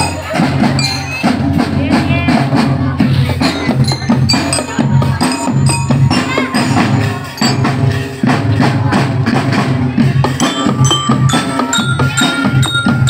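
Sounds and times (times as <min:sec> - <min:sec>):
loud music with heavy bass: 0:00.0 - 0:13.0.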